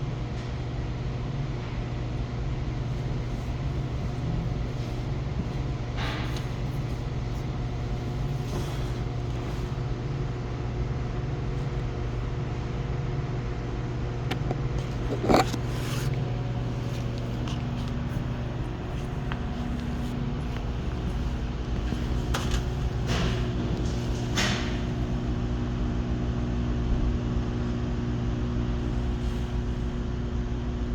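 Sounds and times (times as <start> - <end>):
low mechanical hum: 0.0 - 30.9.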